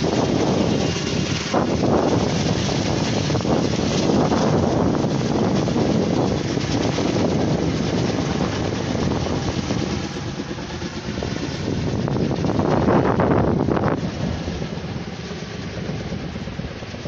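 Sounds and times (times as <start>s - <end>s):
helicopter rotor noise: 0.0s - 17.0s
wind on microphone: 0.0s - 17.0s.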